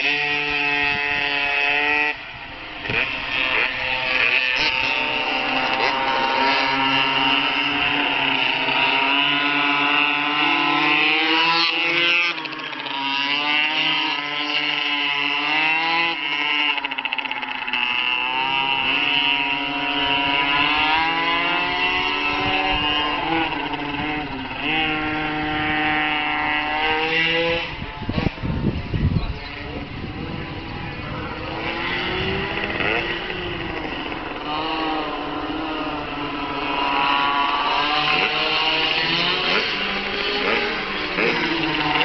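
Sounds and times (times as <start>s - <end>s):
small two-stroke engine revving: 0.0s - 42.0s.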